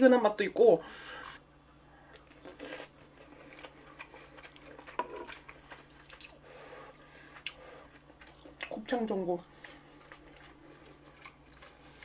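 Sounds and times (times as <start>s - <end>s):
soft chewing: 1.1s - 12.0s.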